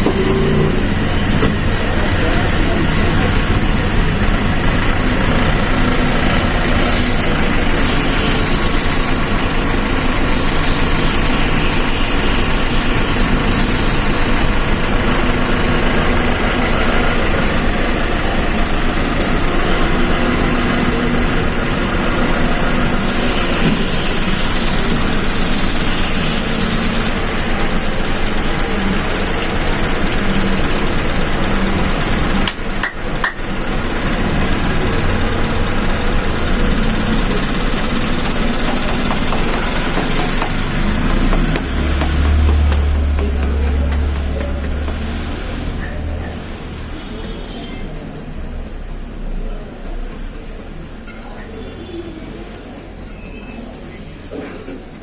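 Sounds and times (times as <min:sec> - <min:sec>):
motor-like hum: 0:00.0 - 0:55.0.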